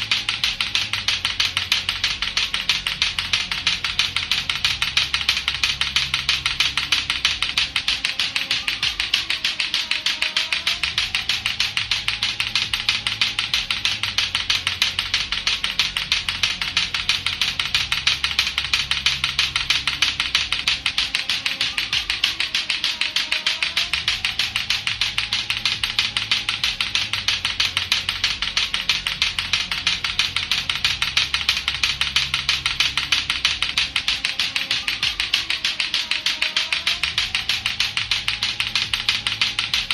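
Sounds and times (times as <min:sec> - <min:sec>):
clacker toy balls clacking: 0:00.0 - 0:39.9
looping backing music: 0:00.0 - 0:39.9.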